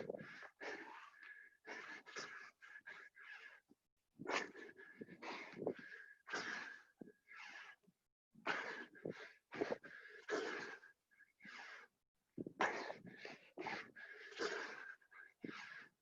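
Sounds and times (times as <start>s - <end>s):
heavy laboured breathing: 0.0s - 16.0s.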